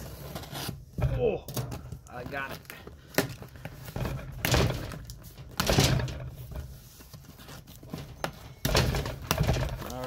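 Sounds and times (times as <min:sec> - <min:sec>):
box being handled and opened: 0:00.0 - 0:05.7, 0:06.3 - 0:10.0
loud rustling and scraping: 0:00.0 - 0:10.0.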